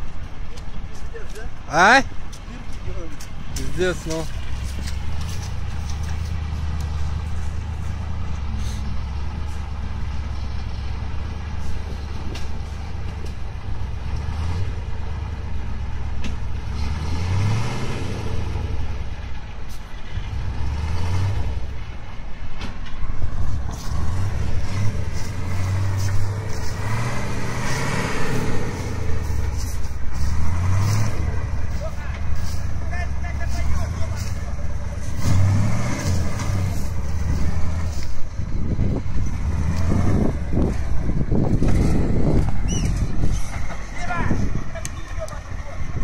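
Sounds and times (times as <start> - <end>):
diesel truck engine revving: 0.0 - 46.0.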